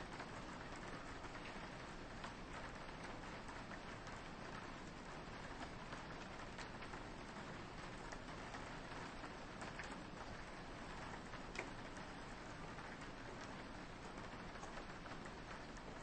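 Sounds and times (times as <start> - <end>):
raindrops tapping on a window: 0.0 - 16.0
soft rain: 0.0 - 16.0.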